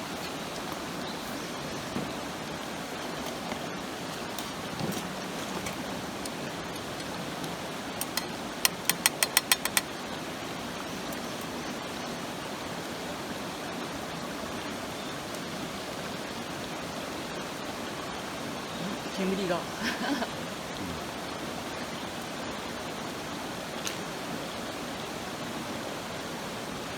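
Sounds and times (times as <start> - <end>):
river flowing: 0.0 - 26.9.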